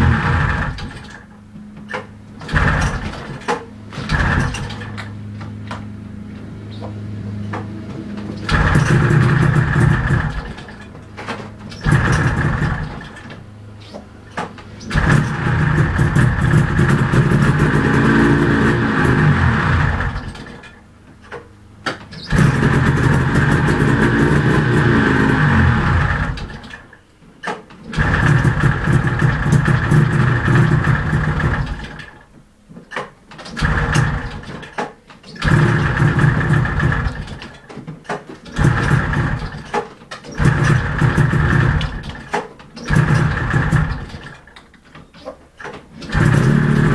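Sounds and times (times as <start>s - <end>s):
two-stroke engine starting and dying: 0.0s - 46.9s.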